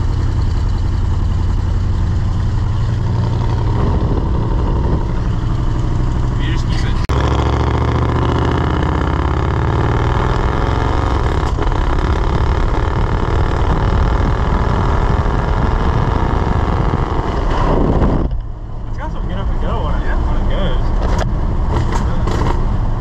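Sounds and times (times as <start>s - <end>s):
pickup engine accelerating: 0.0s - 23.0s
wind and tyre noise: 0.0s - 23.0s.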